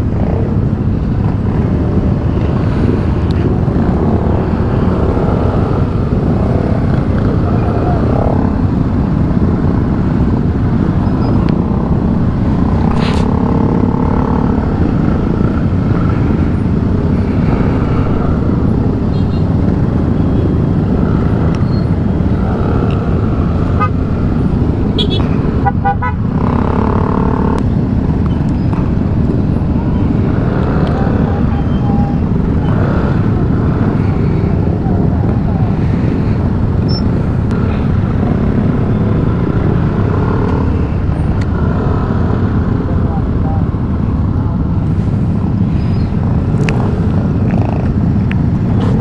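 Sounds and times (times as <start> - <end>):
motorcycle engines rumbling: 0.0 - 49.0.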